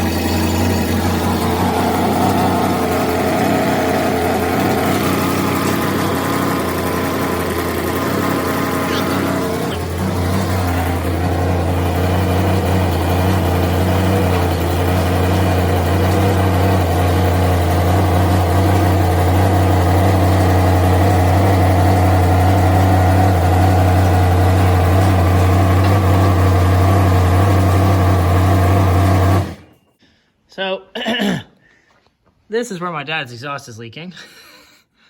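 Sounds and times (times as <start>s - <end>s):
loud engine idling: 0.0s - 29.7s.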